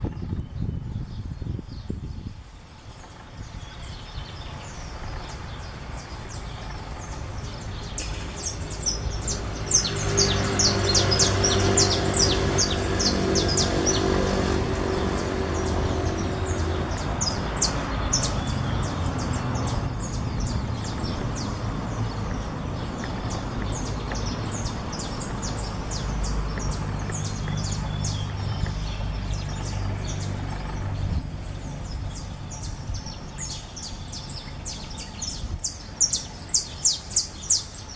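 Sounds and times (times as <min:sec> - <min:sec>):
low engine hum: 0:00.0 - 0:37.9
finches chirping: 0:02.9 - 0:37.9.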